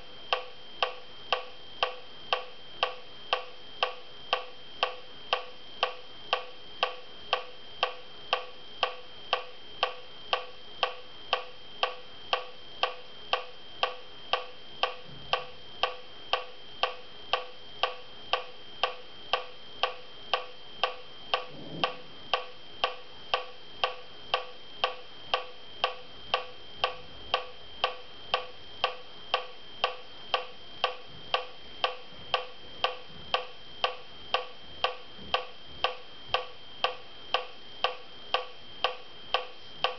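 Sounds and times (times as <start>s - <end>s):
electronic metronome clicking: 0.3s - 39.9s.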